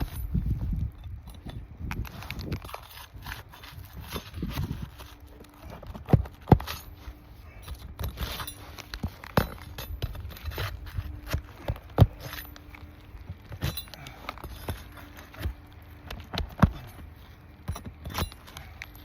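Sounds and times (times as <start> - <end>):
metal bar scraping under shingles: 0.0 - 19.0.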